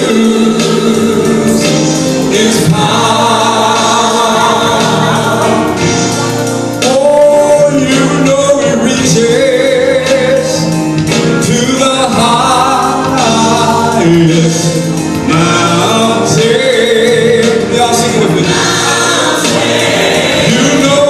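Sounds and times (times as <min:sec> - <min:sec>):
backing music: 0:00.0 - 0:21.0
man singing gospel song: 0:00.0 - 0:21.0.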